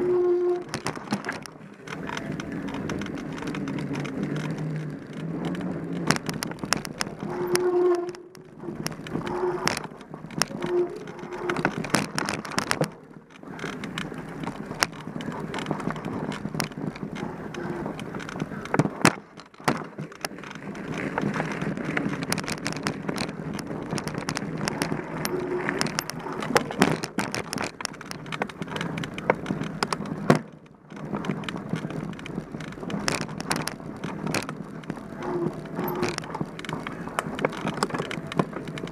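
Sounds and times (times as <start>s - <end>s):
bike rattling and knocking: 0.0s - 38.9s
bike tyres on dirt trail: 0.0s - 38.9s.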